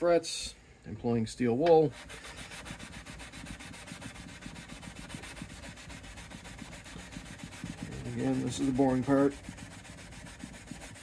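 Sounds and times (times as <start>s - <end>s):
steel wool scrubbing guitar frets: 1.9s - 11.0s.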